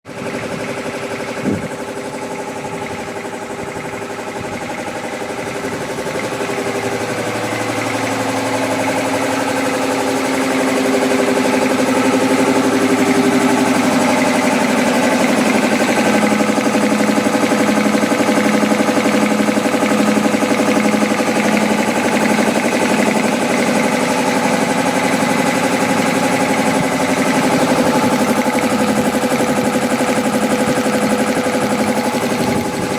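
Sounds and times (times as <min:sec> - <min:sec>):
air compressor chugging: 0:00.0 - 0:32.9
low hum: 0:00.2 - 0:32.9.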